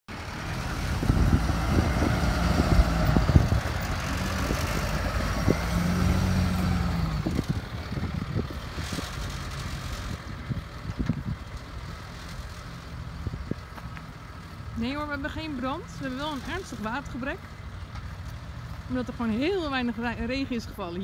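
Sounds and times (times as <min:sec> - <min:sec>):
diesel truck engine passing: 0:00.1 - 0:21.0.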